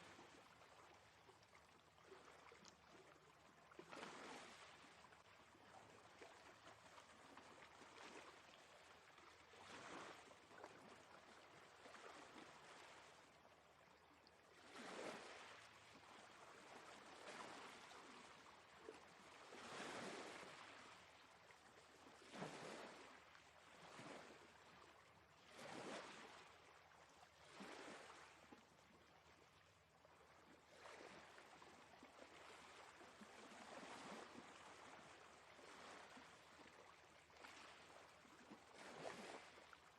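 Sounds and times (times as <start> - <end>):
faint sea waves: 0.0 - 39.9.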